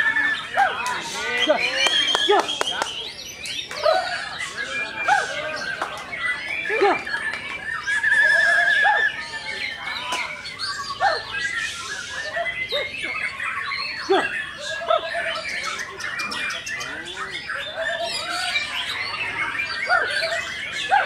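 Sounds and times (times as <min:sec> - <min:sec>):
chorus of songbirds singing: 0:00.0 - 0:21.0.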